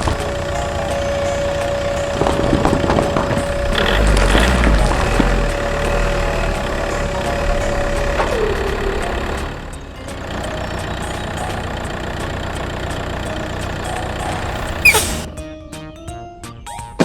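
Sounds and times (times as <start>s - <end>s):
small engine running: 0.0s - 15.3s.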